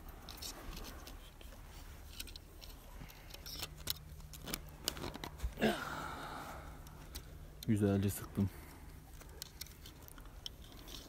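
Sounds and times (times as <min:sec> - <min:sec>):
wire clicking and scraping: 0:00.0 - 0:05.6, 0:06.8 - 0:11.0.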